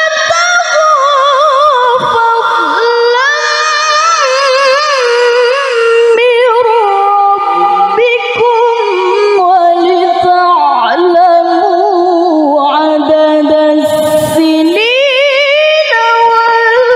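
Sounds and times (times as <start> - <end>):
woman reciting melodiously: 0.0 - 16.9.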